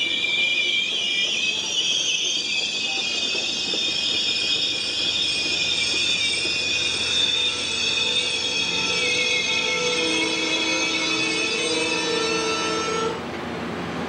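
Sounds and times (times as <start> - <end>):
high-pitched wheel squeal: 0.0 - 13.2
train wheel-and-rail noise: 0.0 - 14.0.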